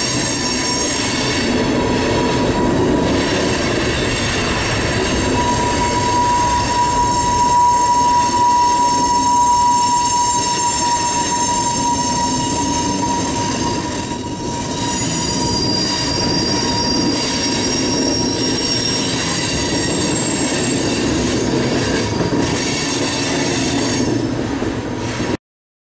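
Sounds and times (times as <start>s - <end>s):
freight train rumble: 0.0s - 25.4s
steel wheels squealing: 0.0s - 25.4s.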